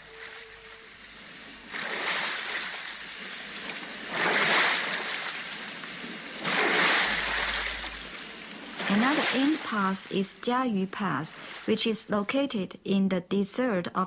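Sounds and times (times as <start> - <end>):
sea waves breaking on shore: 0.0 - 11.9.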